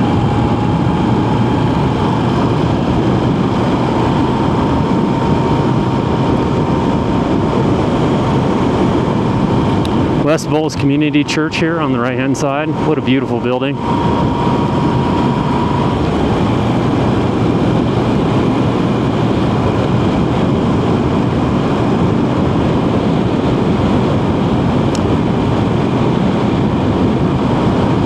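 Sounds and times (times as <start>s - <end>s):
motorcycle engine cruising: 0.0s - 28.0s
wind rushing over microphone: 0.0s - 28.0s.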